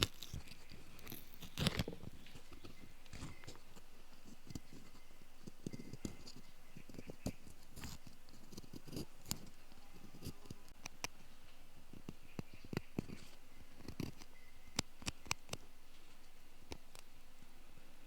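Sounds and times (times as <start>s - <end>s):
ear pick scratching and clicking: 0.0s - 11.2s, 11.9s - 15.7s.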